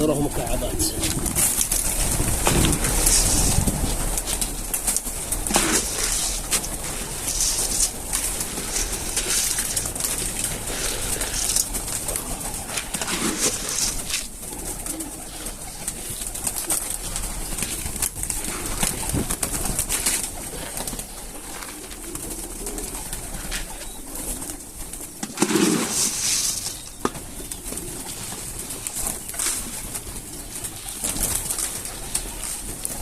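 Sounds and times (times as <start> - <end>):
clicks and rustling of pigeons: 0.0 - 33.0
pigeons cooing: 0.0 - 33.0.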